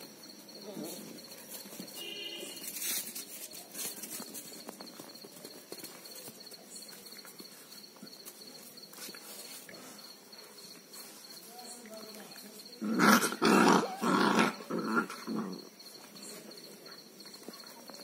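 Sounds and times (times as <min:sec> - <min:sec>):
puppies scuffling on concrete: 0:00.3 - 0:18.0.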